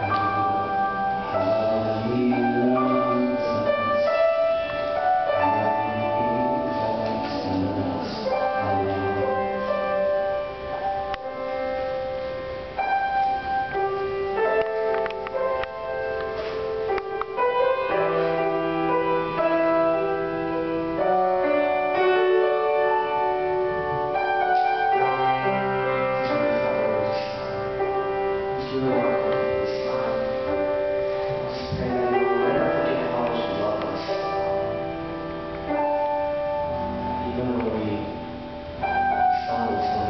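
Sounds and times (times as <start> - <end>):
live piano music: 0.0 - 40.0.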